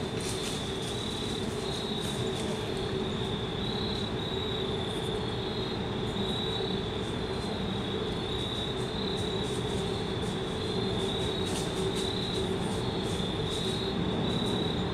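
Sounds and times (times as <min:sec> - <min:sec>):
crickets chirring: 0:00.0 - 0:14.9.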